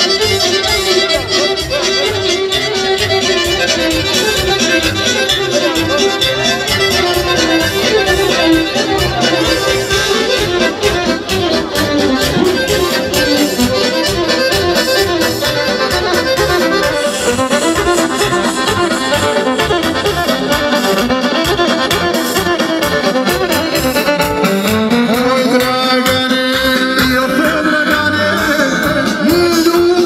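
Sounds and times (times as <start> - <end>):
folk dance music with accordion: 0.0 - 30.0.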